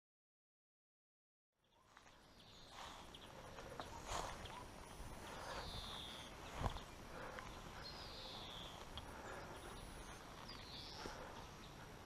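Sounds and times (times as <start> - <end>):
faint outdoor background noise: 1.6 - 12.0.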